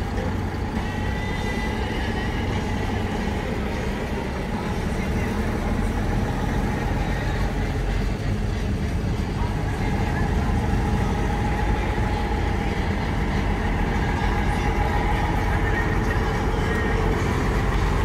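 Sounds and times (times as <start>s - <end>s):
diesel lorry engine at low revs: 0.0s - 18.0s.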